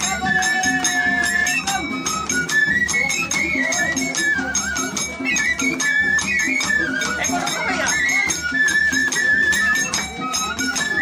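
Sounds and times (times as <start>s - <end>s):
fast rattling beat: 0.0s - 11.0s
flute-like folk melody: 0.0s - 11.0s.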